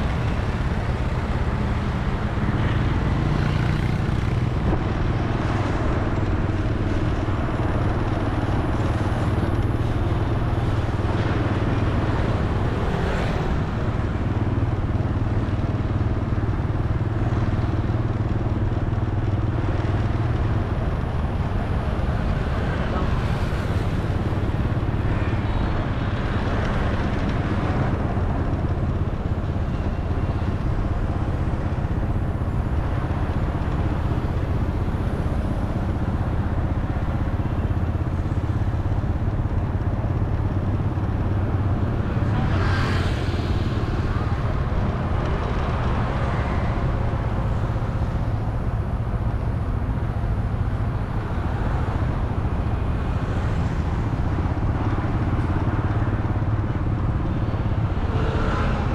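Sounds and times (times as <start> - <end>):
road noise: 0.0 - 58.9
vehicle engine rumble: 0.0 - 58.9.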